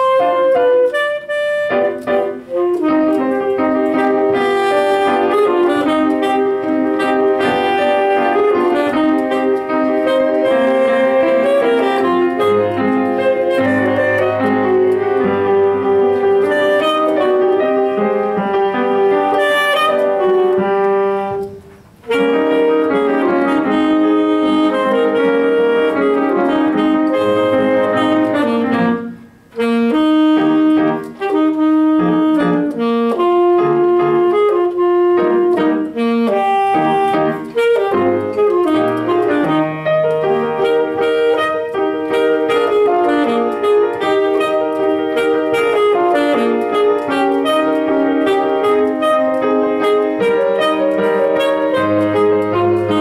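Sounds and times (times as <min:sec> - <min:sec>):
alto saxophone solo: 0:00.0 - 0:53.0
piano accompaniment: 0:00.0 - 0:53.0.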